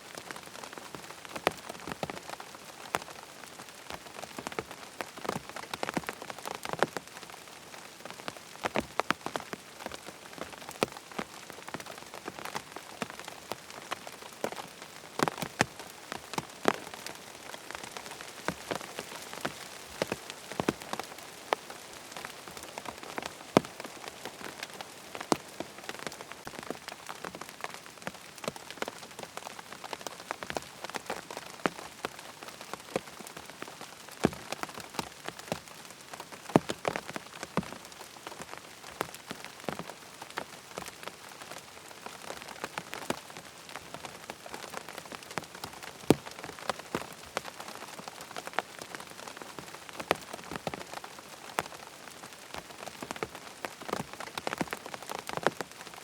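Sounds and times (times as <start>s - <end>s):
rain tapping on tent fabric: 0.0s - 56.0s.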